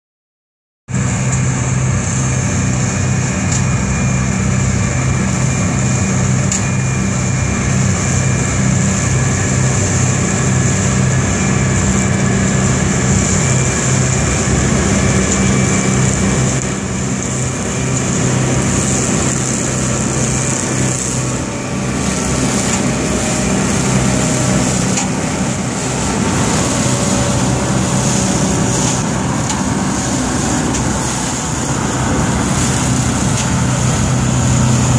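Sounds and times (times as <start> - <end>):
high mower whine: 0.9 - 34.9
tractor engine drone: 0.9 - 34.9.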